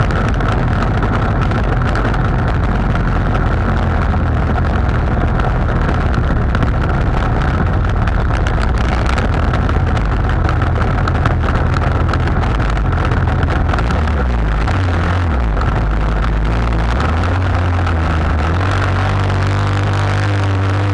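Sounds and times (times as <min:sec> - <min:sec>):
boat motor running: 0:00.0 - 0:20.9.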